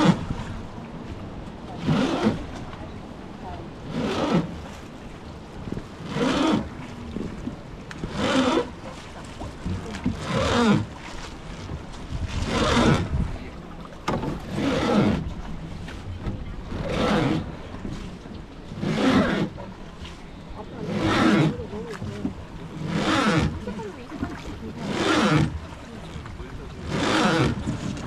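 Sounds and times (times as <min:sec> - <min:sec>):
oar splashing through water: 0:00.0 - 0:28.0
rushing water: 0:00.0 - 0:28.0
wind: 0:00.0 - 0:28.0.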